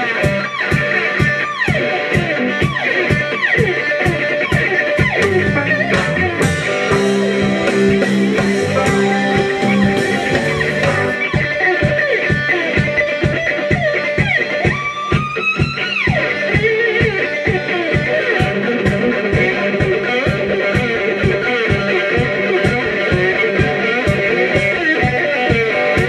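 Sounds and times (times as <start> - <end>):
electric blues band playing: 0.0 - 26.0
electric guitar lead with bending notes: 0.0 - 26.0.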